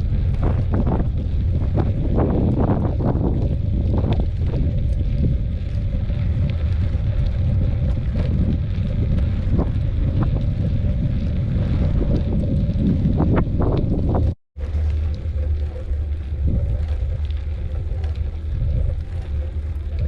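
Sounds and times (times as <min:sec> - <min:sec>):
bike rattling: 0:00.0 - 0:20.0
wind buffeting microphone: 0:00.0 - 0:20.0.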